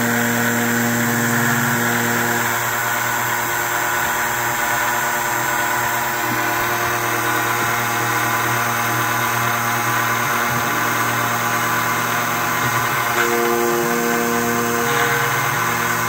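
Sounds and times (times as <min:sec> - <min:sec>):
key-cutting machine milling: 0:00.0 - 0:16.0.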